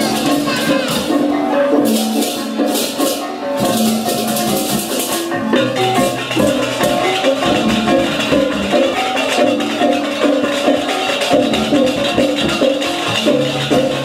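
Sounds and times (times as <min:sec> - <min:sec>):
metal percussion melody: 0:00.0 - 0:14.0
rapidly struck cymbals: 0:00.0 - 0:14.0.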